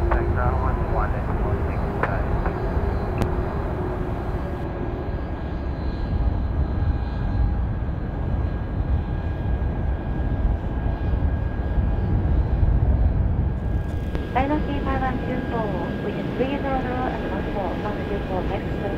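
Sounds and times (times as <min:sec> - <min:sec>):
jet engines rumbling with whine: 0:00.0 - 0:18.9.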